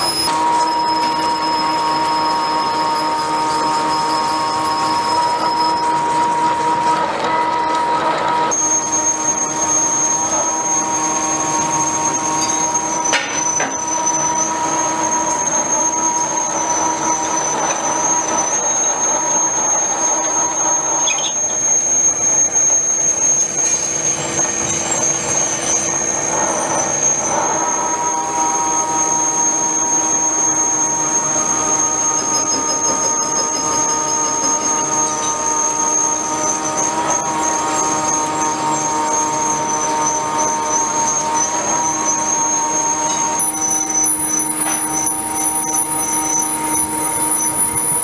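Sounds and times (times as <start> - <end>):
drill bit squealing through steel: 0.0 - 48.0
drill motor hum: 0.0 - 48.0.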